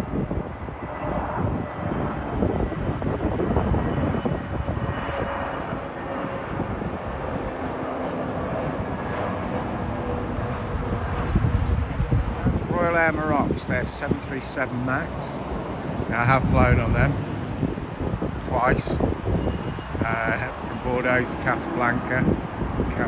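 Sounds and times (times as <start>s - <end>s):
jet airliner engines rumbling: 0.0s - 23.0s.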